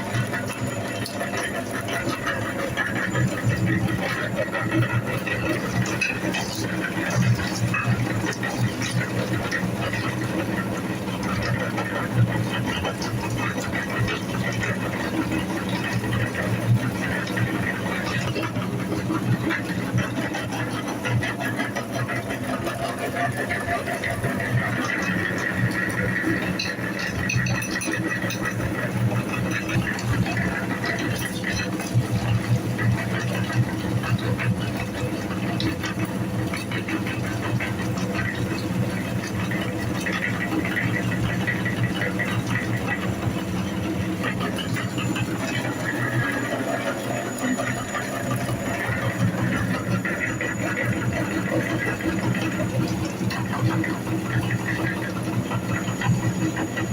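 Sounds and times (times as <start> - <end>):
electric meat grinder motor hum: 0.0 - 56.9
rattling and crackling of grinding candy: 0.0 - 56.9.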